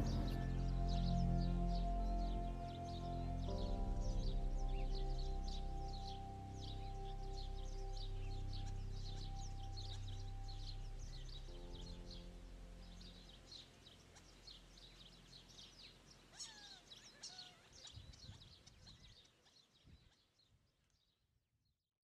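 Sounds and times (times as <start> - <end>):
faint birdsong chirps: 0.0 - 21.8.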